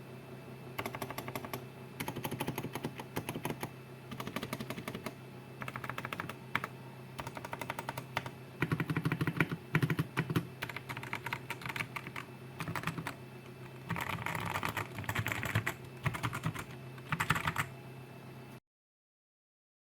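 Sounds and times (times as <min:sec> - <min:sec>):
mechanical keyboard typing: 0:00.8 - 0:13.2, 0:13.8 - 0:17.7.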